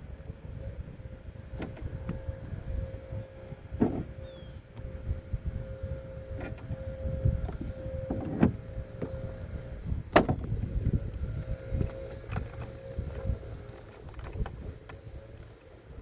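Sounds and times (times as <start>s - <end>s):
faint steady hum: 0.0s - 16.0s
low rumbling wind noise: 0.0s - 16.0s.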